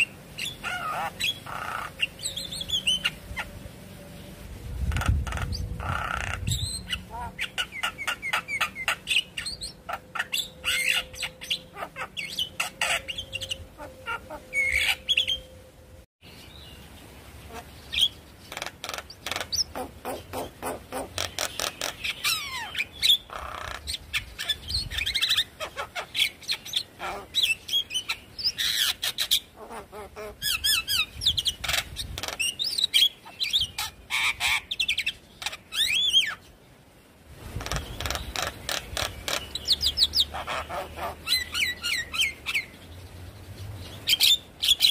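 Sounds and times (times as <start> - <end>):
bird chattering song: 0.0 - 3.5, 4.9 - 15.5, 17.5 - 36.5, 37.5 - 44.9.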